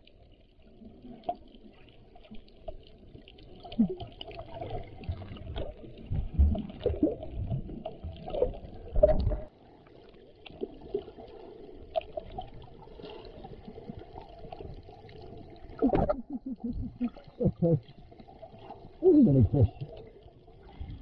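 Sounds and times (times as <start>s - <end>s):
knocks of movement underwater: 0.0s - 21.0s
underwater rushing water: 0.0s - 21.0s.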